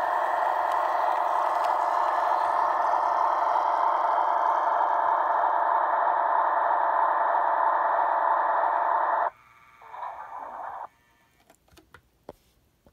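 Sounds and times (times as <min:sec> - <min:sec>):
sound dropping in pitch: 0:00.0 - 0:10.9
electronic diesel engine sound: 0:00.0 - 0:11.4.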